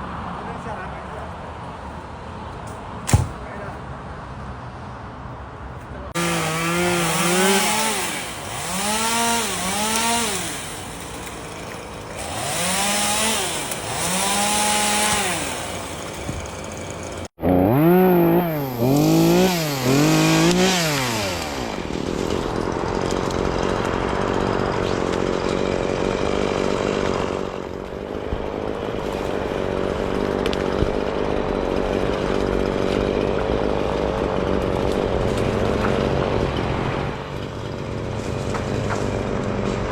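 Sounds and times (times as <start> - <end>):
chainsaw revving: 6.2 - 39.9.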